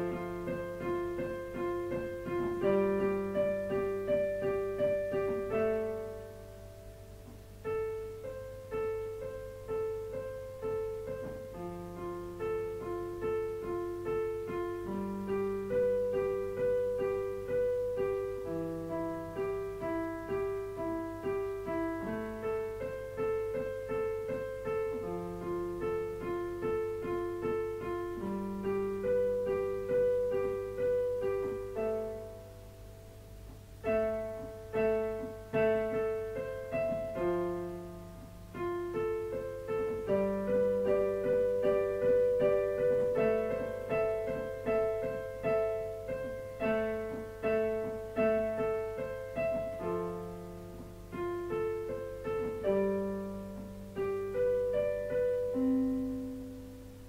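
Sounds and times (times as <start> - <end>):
solo piano improvisation: 0.0 - 57.0.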